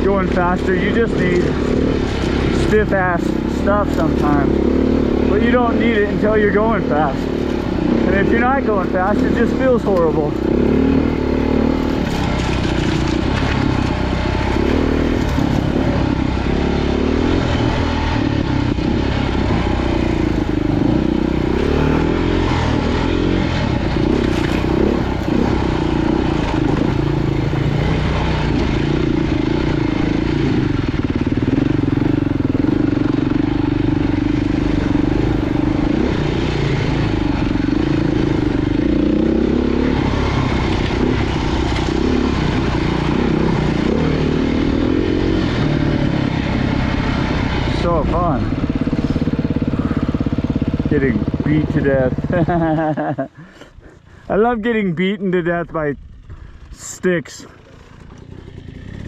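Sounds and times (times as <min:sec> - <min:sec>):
dirt bike engine revving: 0:00.0 - 0:54.2, 0:57.4 - 0:59.0.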